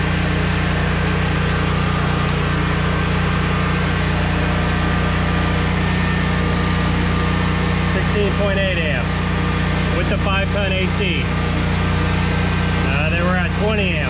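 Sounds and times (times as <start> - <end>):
generator engine droning: 0.0 - 14.0.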